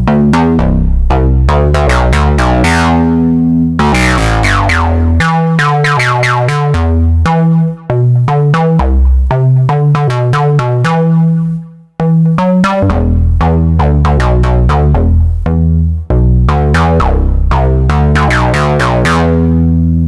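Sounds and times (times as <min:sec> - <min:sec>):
synthesizer bass line: 0:00.0 - 0:20.0.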